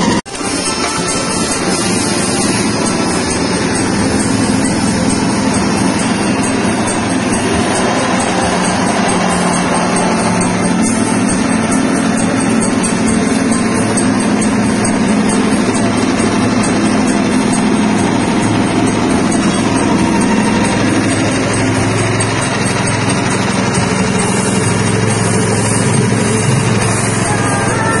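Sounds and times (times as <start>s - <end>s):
machine running with small engine: 0.0s - 28.0s.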